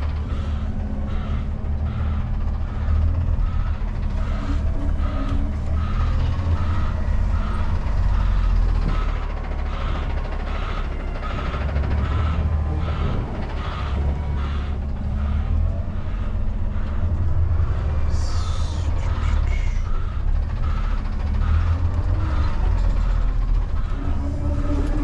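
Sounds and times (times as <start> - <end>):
truck backup alarm beeping: 0.0 - 25.0
truck engine rumble: 0.0 - 25.0.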